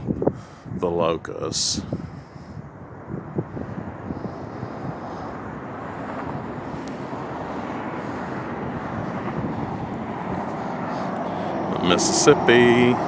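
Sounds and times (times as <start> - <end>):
passing vehicle rumble: 1.5 - 13.0.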